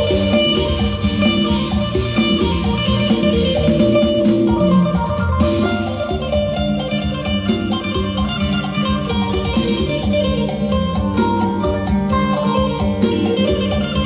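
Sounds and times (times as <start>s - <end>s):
plucked lute melody: 0.0s - 14.0s.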